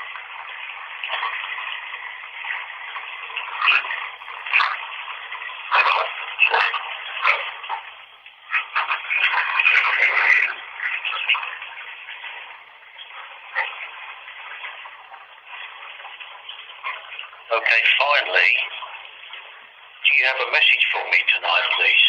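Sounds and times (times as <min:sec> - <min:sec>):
bath water running: 0:00.0 - 0:22.0.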